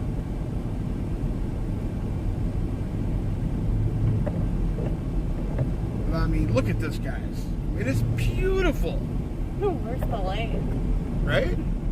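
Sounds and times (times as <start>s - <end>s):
constant low hum: 0.0s - 11.9s
tyres on snowy road: 0.0s - 11.9s
vehicle engine rumble inside cab: 0.0s - 11.9s.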